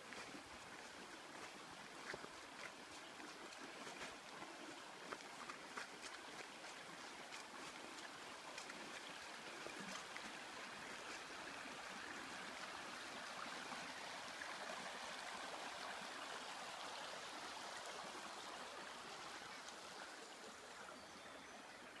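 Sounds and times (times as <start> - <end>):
river flowing over stones: 0.0 - 22.0.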